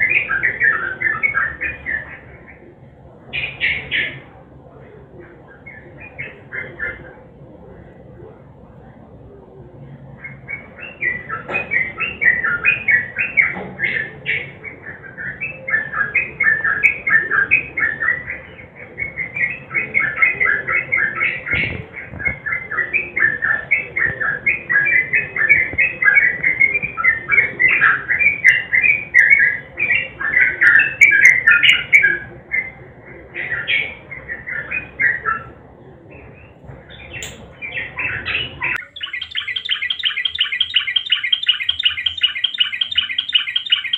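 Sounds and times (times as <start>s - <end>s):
bulbul singing chattering phrases: 0.0s - 8.2s, 10.1s - 43.9s.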